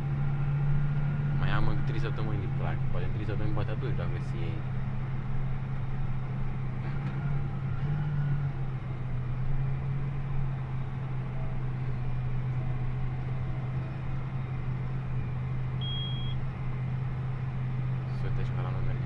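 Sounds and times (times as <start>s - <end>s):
tractor diesel engine droning: 0.0s - 19.0s.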